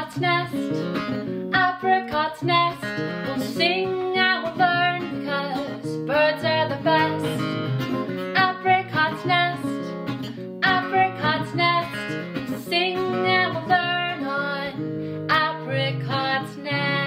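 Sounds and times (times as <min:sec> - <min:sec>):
person singing: 0:00.0 - 0:00.9, 0:01.5 - 0:07.5, 0:08.4 - 0:17.0
strummed acoustic guitar: 0:00.0 - 0:17.0.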